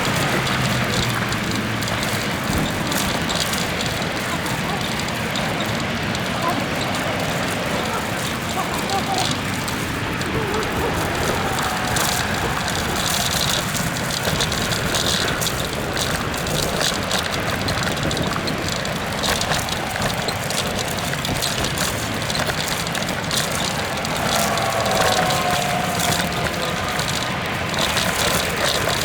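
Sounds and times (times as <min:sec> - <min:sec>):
small rattles and clicks: 0:00.0 - 0:29.0
tyre noise: 0:00.0 - 0:29.0.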